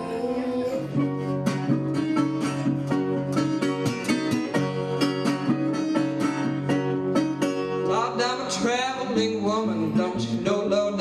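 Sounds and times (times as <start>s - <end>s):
blues band playing live: 0.0s - 11.0s
guitar strumming: 0.0s - 11.0s.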